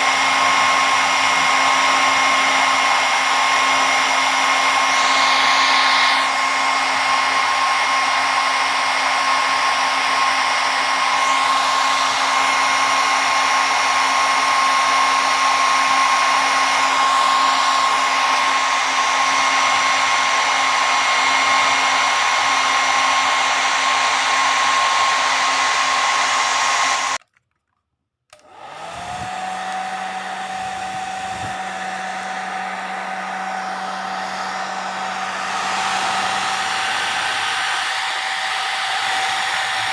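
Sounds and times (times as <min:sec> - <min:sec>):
hair dryer blowing with whine: 0:00.0 - 0:27.2, 0:28.3 - 0:39.9.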